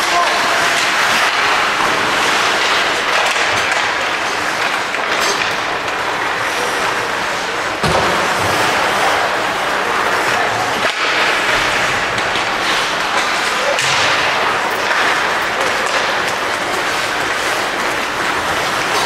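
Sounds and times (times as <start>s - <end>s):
crowd and hockey play din: 0.0s - 19.0s.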